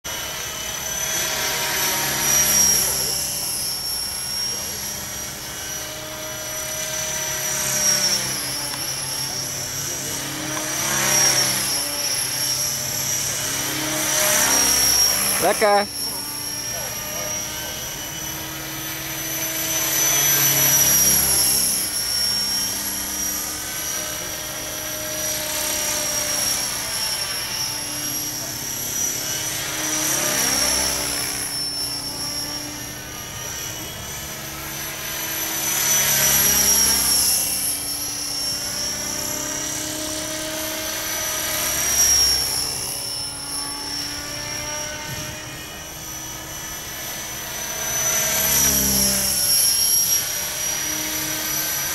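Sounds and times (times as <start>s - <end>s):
model helicopter high whine: 0.0s - 51.9s.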